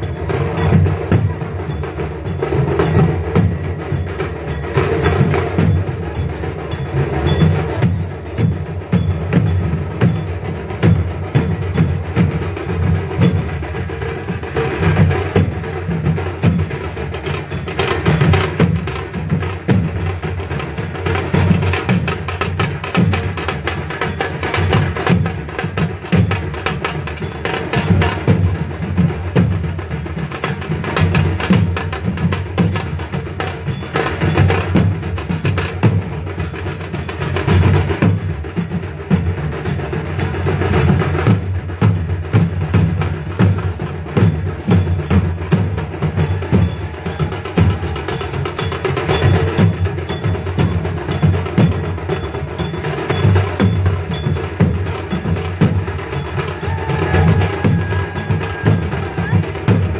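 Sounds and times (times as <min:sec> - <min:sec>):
fast percussion rhythm: 0:00.0 - 0:59.9
sharp clacking beat: 0:00.0 - 0:59.9.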